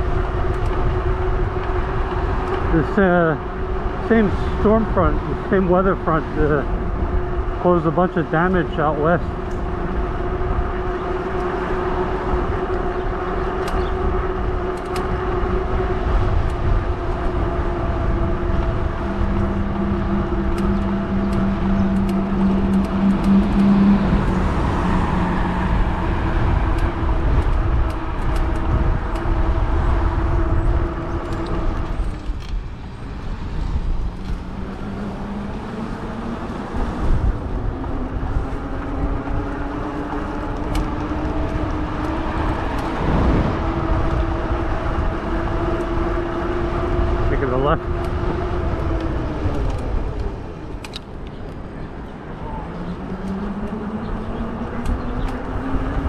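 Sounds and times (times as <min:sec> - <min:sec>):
electric motor whine: 0:00.0 - 0:56.0
wind rumble on microphone: 0:00.0 - 0:56.0.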